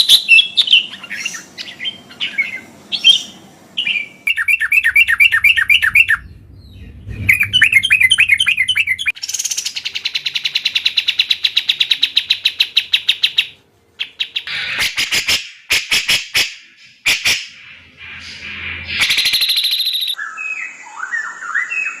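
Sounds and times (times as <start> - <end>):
birds singing and trilling: 0.0 - 15.7, 16.7 - 22.0.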